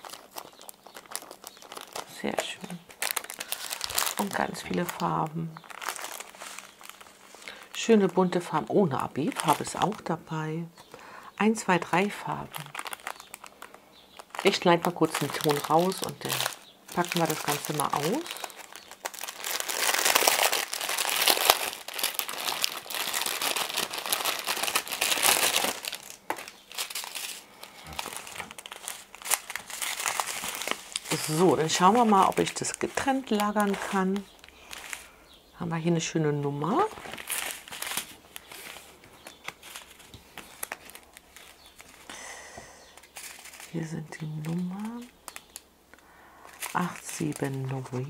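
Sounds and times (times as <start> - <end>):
plastic packaging crinkling: 0.0 - 35.5, 36.3 - 42.2, 42.8 - 48.0.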